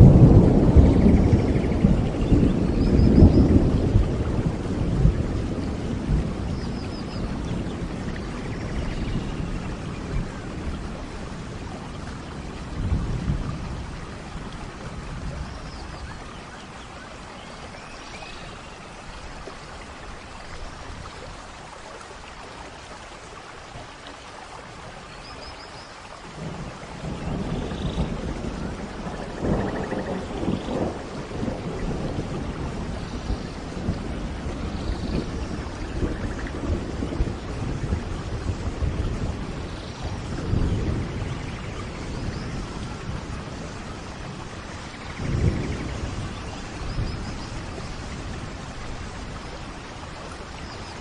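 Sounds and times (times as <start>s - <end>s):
rolling thunder: 0.0s - 16.8s, 26.3s - 51.0s
steady rain: 0.0s - 51.0s.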